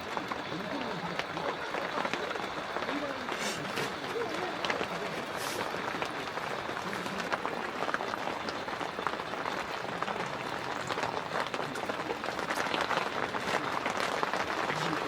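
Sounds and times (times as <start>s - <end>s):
rain on tent fabric: 0.0s - 15.0s.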